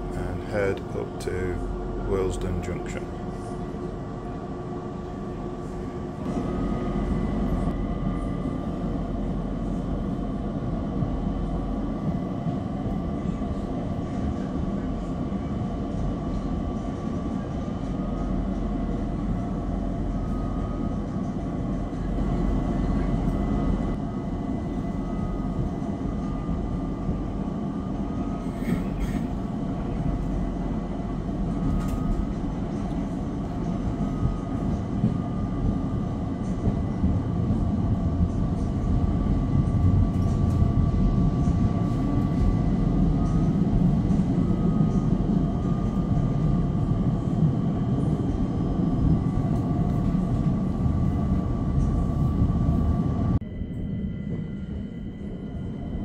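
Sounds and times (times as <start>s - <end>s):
electric train rumbling and whining: 0.0s - 56.0s.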